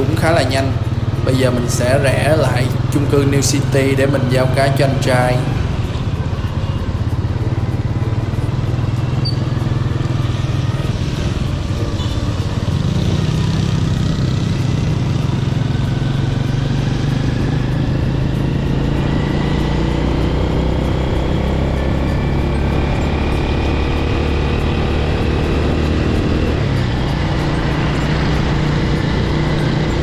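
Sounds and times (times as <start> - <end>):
motorbike engine running: 0.0 - 30.0.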